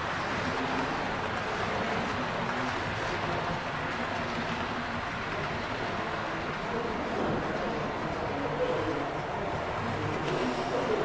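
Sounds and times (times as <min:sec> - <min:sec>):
model train rolling on track: 0:00.0 - 0:11.0
room noise: 0:00.0 - 0:11.0.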